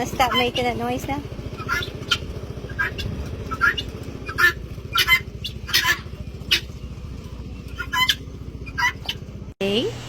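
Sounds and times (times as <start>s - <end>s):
bird squawking: 0.0s - 9.4s
steady low hum: 0.0s - 10.0s.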